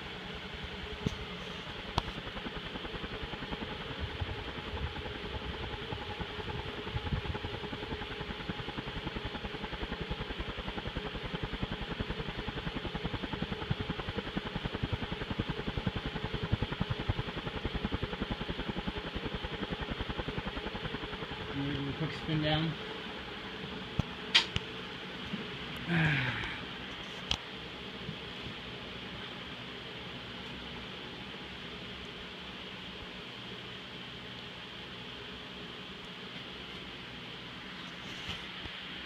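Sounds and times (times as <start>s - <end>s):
ceiling fan humming: 0.0s - 39.0s.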